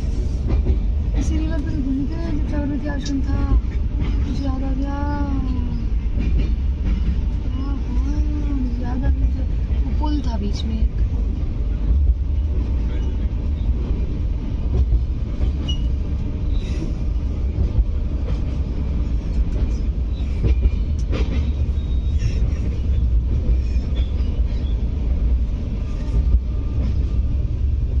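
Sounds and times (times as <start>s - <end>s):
wheels squeaking on rails: 0.0s - 14.1s, 15.3s - 27.4s
train coaches rumbling: 0.0s - 28.0s.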